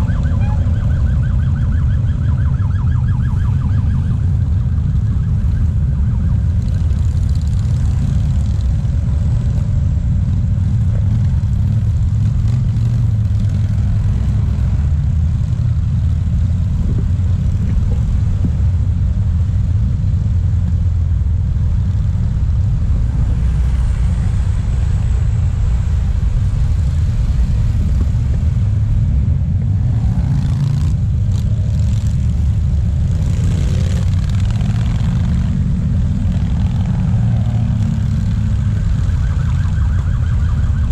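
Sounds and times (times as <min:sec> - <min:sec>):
motorcycles riding past: 0:00.0 - 0:19.0, 0:21.8 - 0:40.9
passing car traffic: 0:00.0 - 0:40.9.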